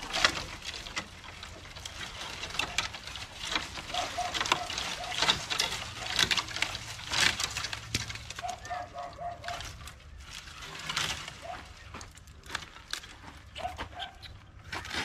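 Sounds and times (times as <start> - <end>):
dry branches snapping: 0.0 - 15.0.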